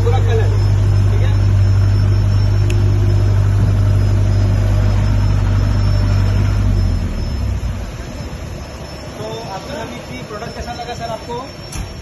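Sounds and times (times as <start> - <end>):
diesel generator humming: 0.0 - 12.0.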